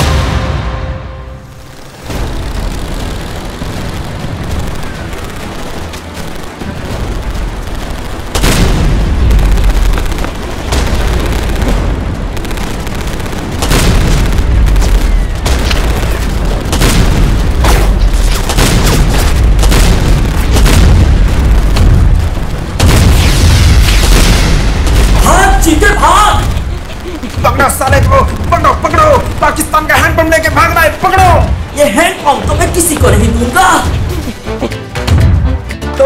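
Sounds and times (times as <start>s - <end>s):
heavy booms and explosions: 0.0s - 34.4s.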